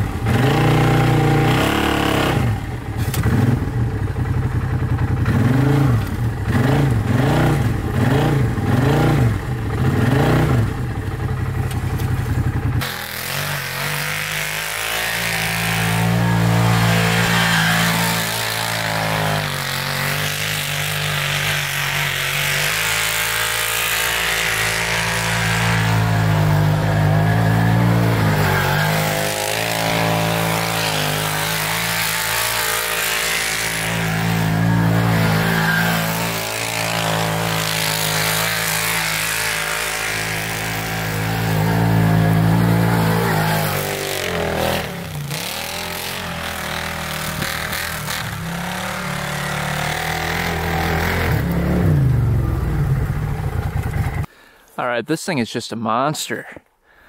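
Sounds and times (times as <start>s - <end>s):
engine revving high: 0.0s - 3.9s, 5.2s - 10.9s, 12.8s - 54.3s.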